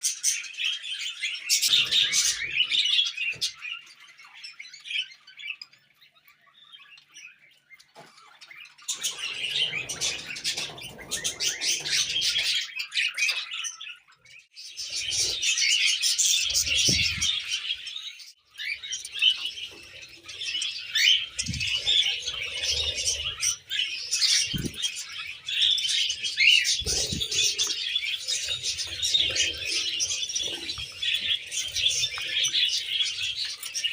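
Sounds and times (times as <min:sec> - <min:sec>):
budgies chirping and chattering: 0:00.0 - 0:33.9.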